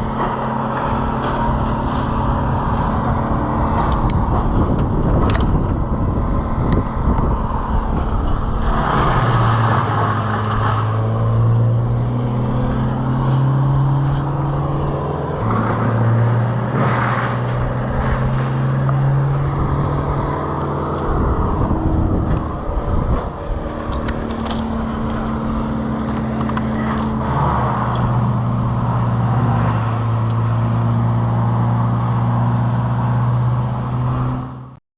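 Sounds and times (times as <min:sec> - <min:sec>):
engine running: 0:00.0 - 0:34.8.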